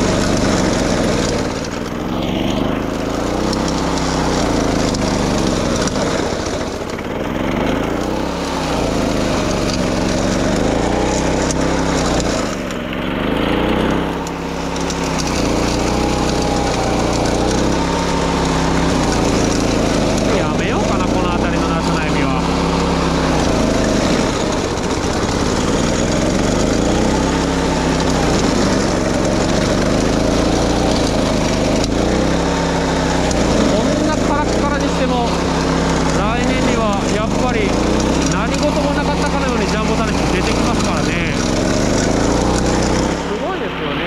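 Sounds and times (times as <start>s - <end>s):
lawn mower engine mowing grass: 0.0s - 44.0s.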